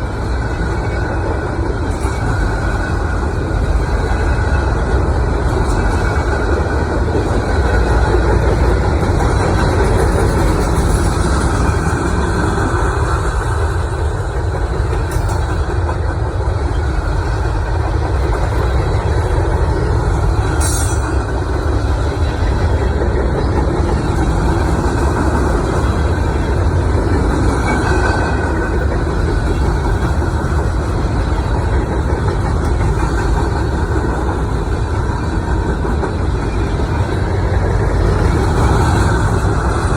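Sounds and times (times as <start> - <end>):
heavy engines rumbling: 0.0 - 39.9.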